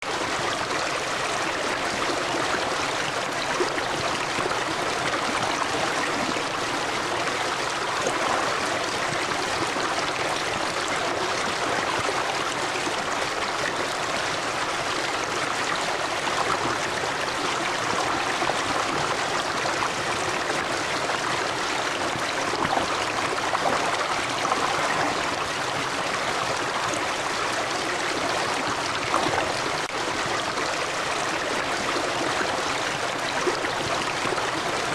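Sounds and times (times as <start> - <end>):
river water over stones: 0.0 - 34.9.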